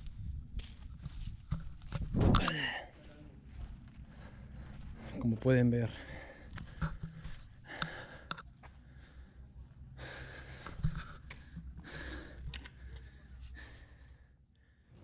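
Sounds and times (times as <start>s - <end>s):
faint breathing: 2.4s - 15.0s.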